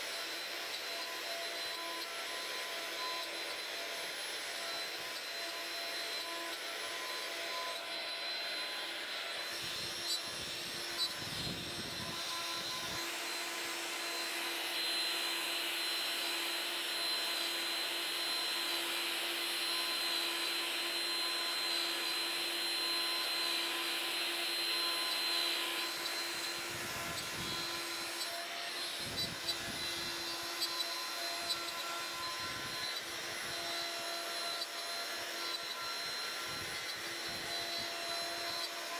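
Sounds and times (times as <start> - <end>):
router spindle whine cutting wood: 0.0 - 38.9.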